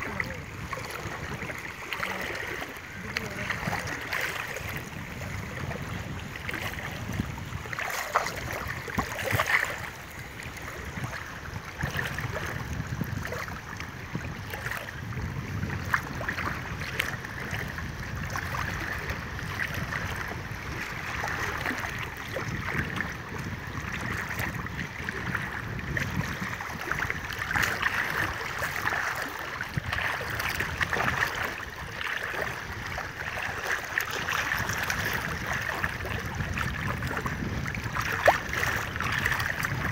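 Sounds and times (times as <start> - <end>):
water sloshing around wading legs: 0.0 - 39.9
wind buffeting microphone: 0.0 - 39.9.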